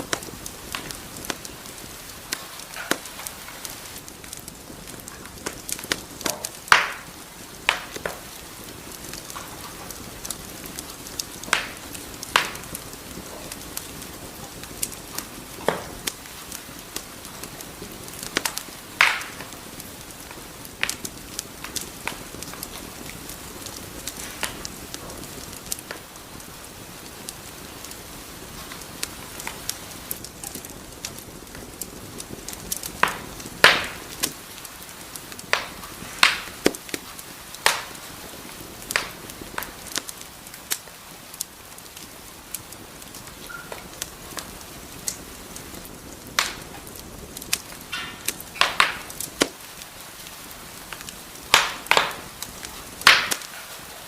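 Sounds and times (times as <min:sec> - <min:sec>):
sharp pops and snaps: 0:00.0 - 0:54.0
wood fire crackling: 0:00.0 - 0:54.0.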